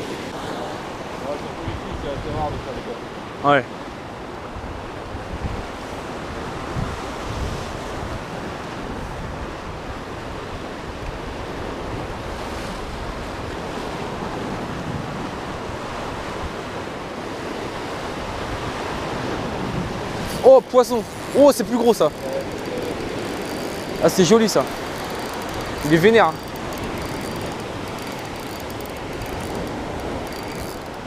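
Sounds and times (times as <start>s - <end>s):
wind buffeting microphone: 4.5s - 31.0s
sea waves breaking on rocks: 5.7s - 31.0s.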